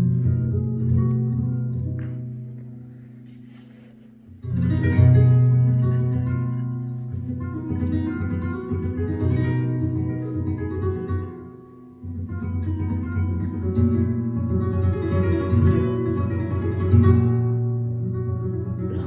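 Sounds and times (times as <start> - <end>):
solo flamenco guitar: 0.0 - 19.0.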